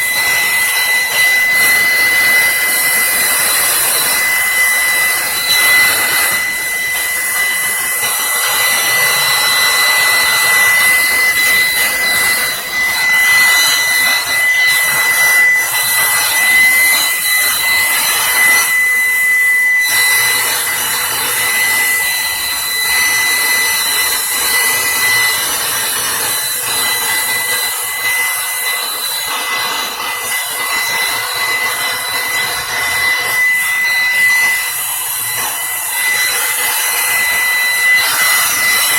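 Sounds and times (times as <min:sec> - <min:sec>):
electric blower running: 0:00.0 - 0:38.9.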